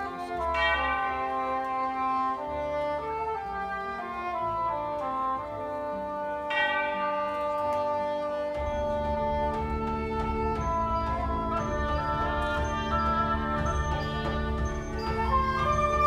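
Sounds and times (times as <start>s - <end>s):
wind band and orchestra chords: 0.0s - 16.0s.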